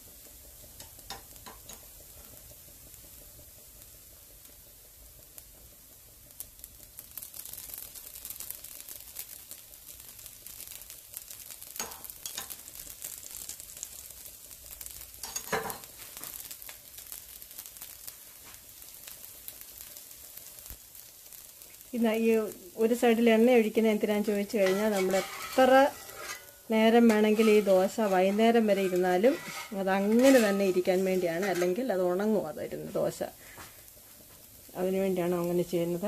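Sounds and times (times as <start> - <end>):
dosa sizzling on a pan: 0.0 - 36.0.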